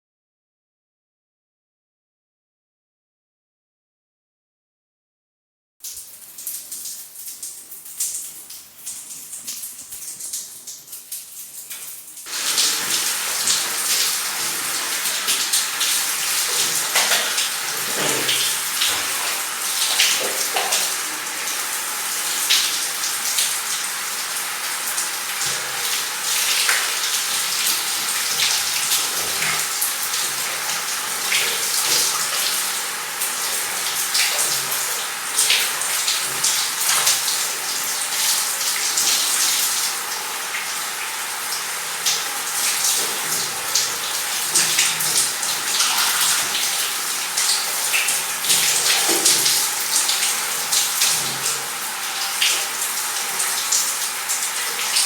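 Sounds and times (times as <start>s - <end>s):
water running and splashing: 5.9s - 55.0s.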